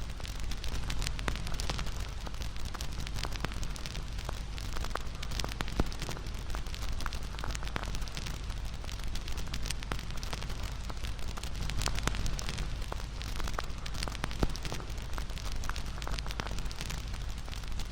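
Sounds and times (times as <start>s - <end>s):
low rumble of flames: 0.0s - 17.9s
campfire crackling and popping: 0.1s - 17.9s.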